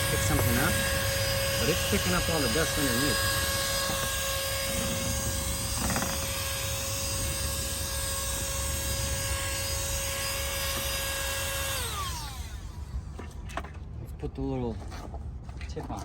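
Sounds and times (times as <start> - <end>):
handheld vacuum motor whining: 0.0 - 13.4.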